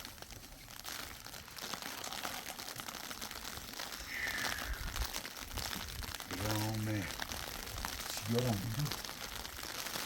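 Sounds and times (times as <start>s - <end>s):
crackling and rustling: 0.0s - 10.0s.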